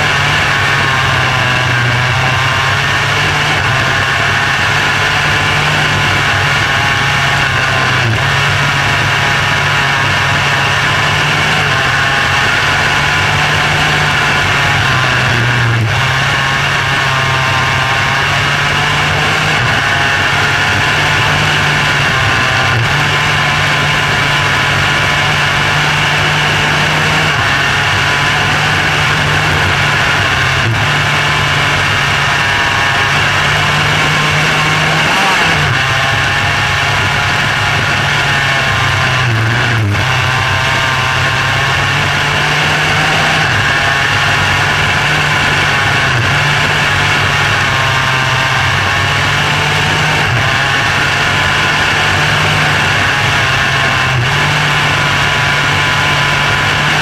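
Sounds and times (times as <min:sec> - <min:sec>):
race car engine drone: 0:00.0 - 0:57.0.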